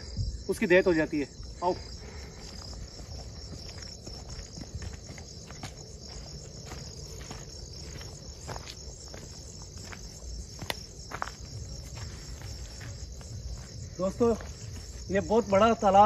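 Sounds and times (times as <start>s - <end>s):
crickets chirping: 0.0s - 16.0s
footsteps on dirt path: 1.3s - 16.0s.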